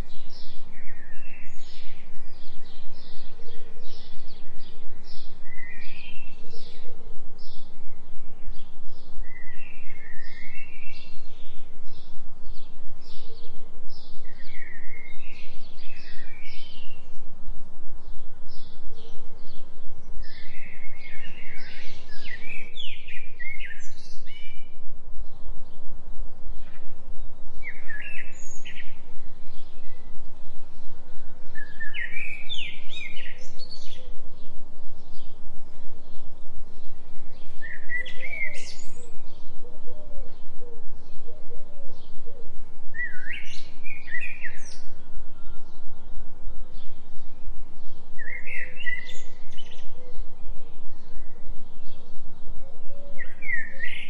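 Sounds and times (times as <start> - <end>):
birds singing and chirping: 0.0 - 54.0
pulsing low hum tone: 0.0 - 54.0.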